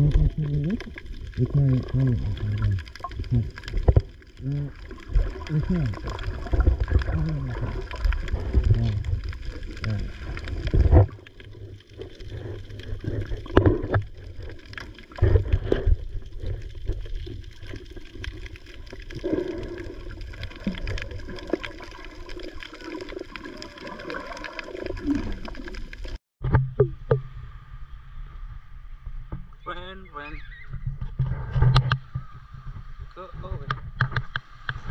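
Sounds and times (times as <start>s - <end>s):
muffled underwater water sloshing: 0.0s - 29.6s.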